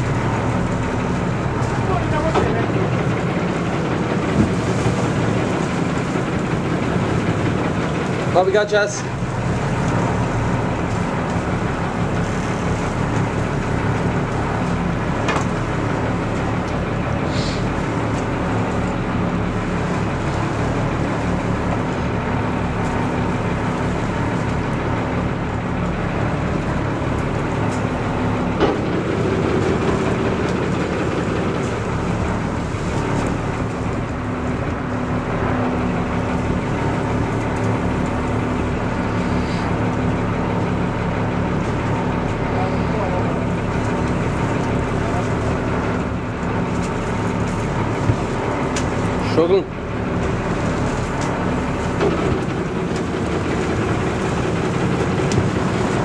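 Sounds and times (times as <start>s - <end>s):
boat engine drone: 0.0s - 56.0s
water rushing: 0.0s - 56.0s
wind: 0.0s - 56.0s.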